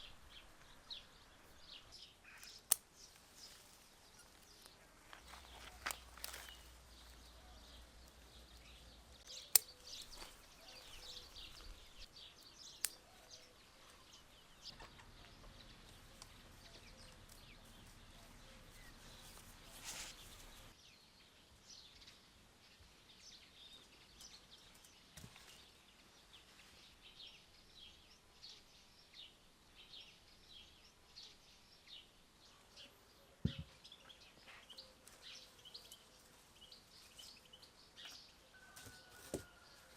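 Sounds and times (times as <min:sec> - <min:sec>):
small birds chirping: 0:00.0 - 0:39.8.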